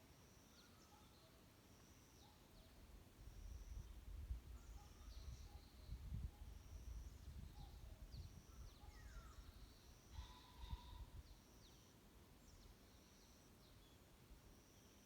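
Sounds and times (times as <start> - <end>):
songbirds singing: 0.1 - 15.0.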